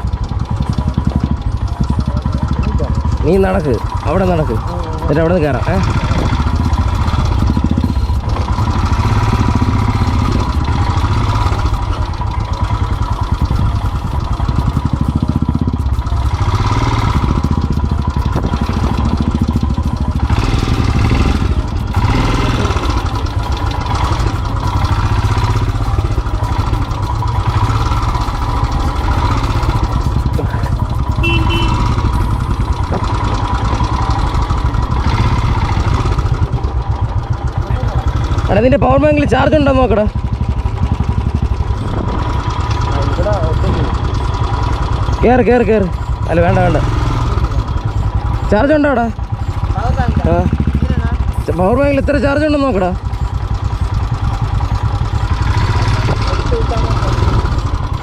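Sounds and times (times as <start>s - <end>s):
motorcycle engine thumping rumble: 0.0s - 58.0s.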